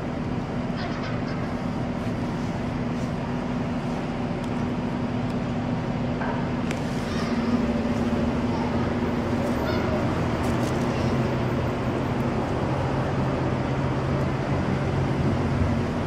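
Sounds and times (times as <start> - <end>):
constant hum: 0.0 - 16.0
street traffic rumble: 0.0 - 16.0.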